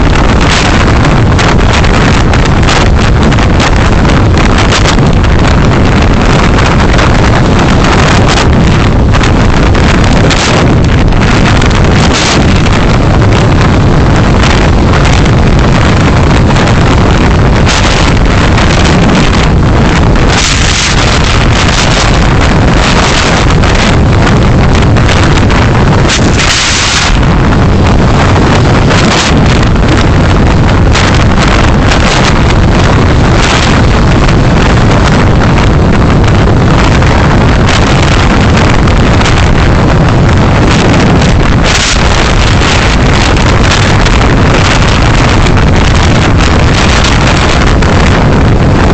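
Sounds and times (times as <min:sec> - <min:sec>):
low engine drone: 0:00.0 - 0:48.9
microphone crackles: 0:00.0 - 0:48.9
road and wind noise of car: 0:00.0 - 0:48.9.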